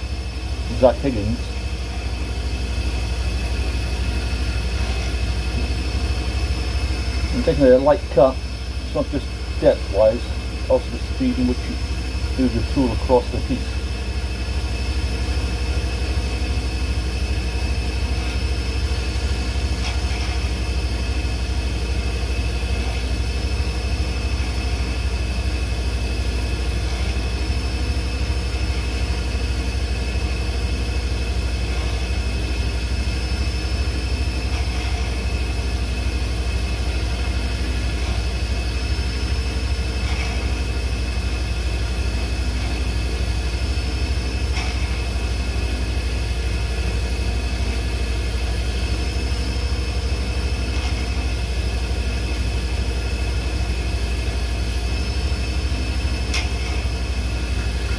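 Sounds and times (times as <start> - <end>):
wood lathe humming and whining: 0.0 - 57.9
turning tool cutting wood: 3.6 - 13.8, 16.1 - 55.0.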